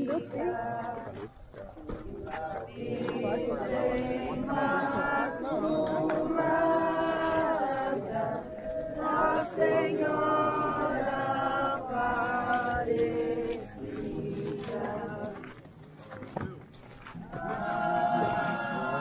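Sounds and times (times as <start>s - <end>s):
group singing a hymn: 0.0s - 15.7s, 17.0s - 19.0s.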